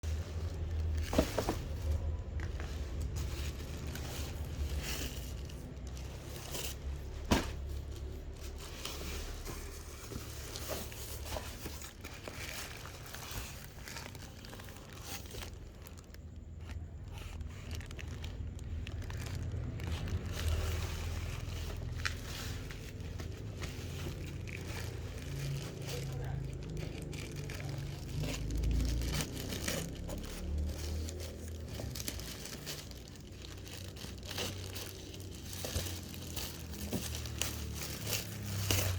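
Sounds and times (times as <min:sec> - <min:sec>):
crinkling and rustling handling noise: 0:00.0 - 0:38.9
steady low rumble: 0:00.0 - 0:38.9.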